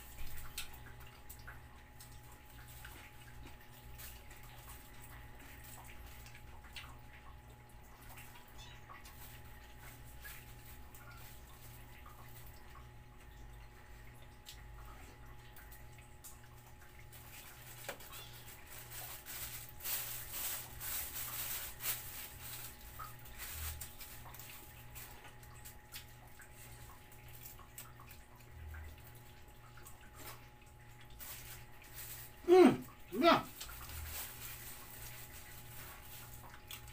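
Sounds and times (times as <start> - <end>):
animals chewing and licking: 0.0 - 36.9.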